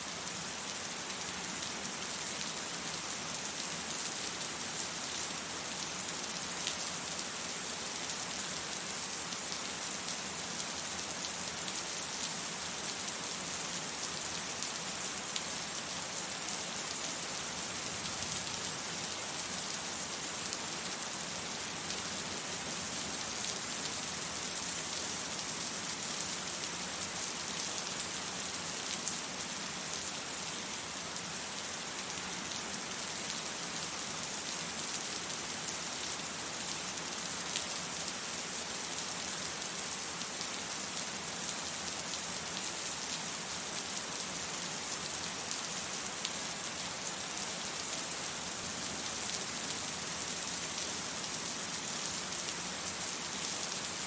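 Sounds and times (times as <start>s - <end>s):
rain pattering on surfaces: 0.1s - 54.0s.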